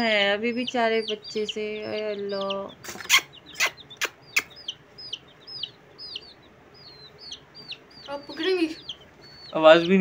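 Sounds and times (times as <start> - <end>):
chick peeping: 0.0 - 10.0.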